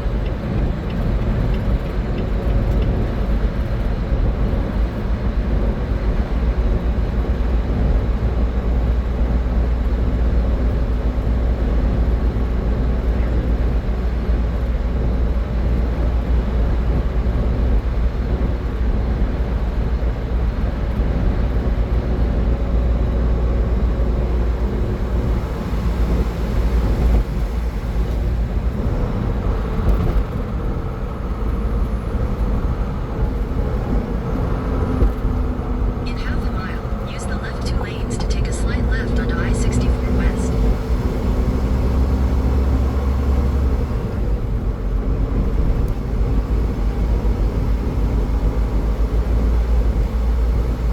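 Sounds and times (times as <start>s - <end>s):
car road and tyre noise: 0.0s - 50.9s.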